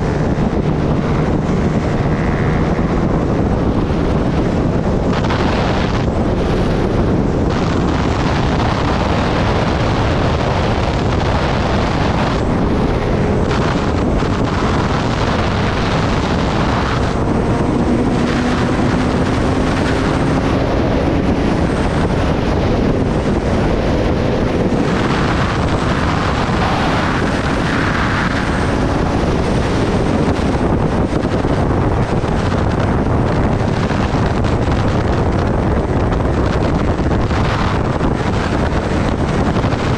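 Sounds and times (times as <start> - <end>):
motorcycle engine low tone: 0.0 - 39.9
wind rushing over microphone: 0.0 - 39.9.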